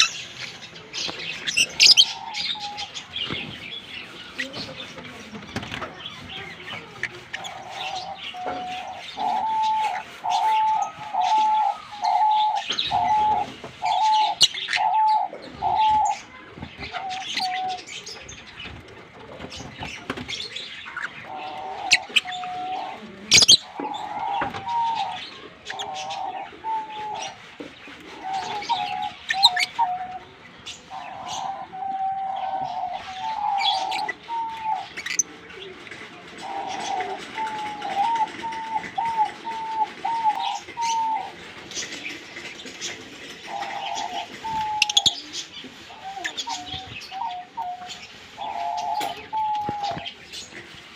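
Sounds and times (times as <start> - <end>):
lovebirds chirping: 0.0 - 35.8, 36.4 - 50.9.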